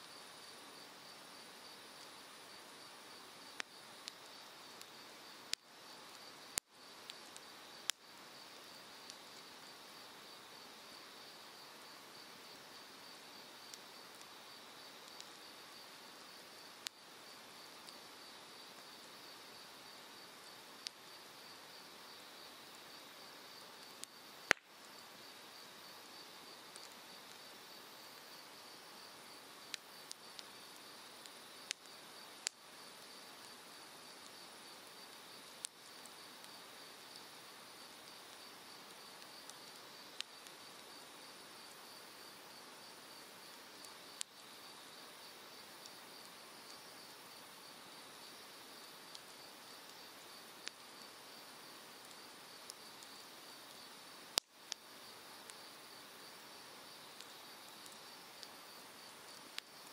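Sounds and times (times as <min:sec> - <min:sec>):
fire popping and crackling: 0:01.4 - 0:09.7, 0:10.7 - 0:25.4, 0:26.0 - 0:47.6, 0:48.2 - 0:56.2, 0:57.0 - 0:59.9.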